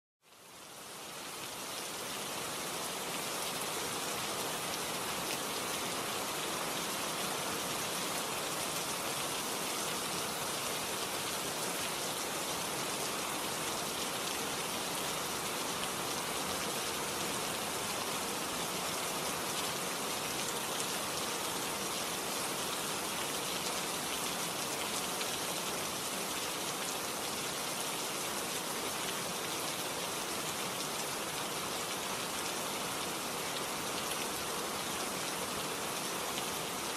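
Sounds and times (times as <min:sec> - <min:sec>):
steady rain-like hiss: 0:00.2 - 0:36.9.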